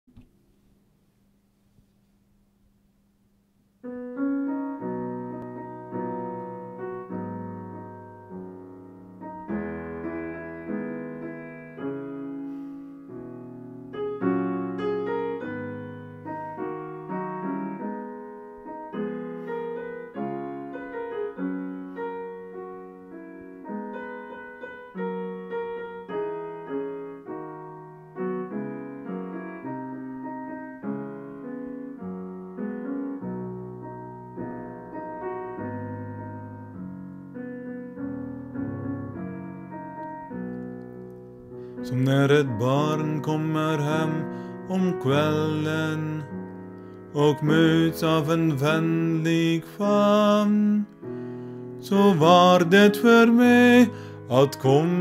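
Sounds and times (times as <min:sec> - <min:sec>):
piano playing hymn chords: 0:03.8 - 0:55.0.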